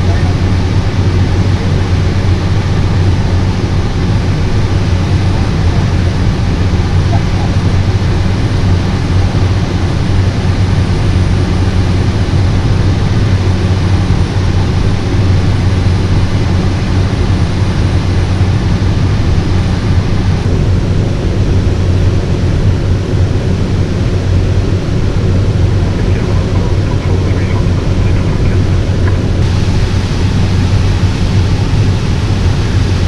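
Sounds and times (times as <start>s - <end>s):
turboprop engine drone: 0.0s - 33.0s.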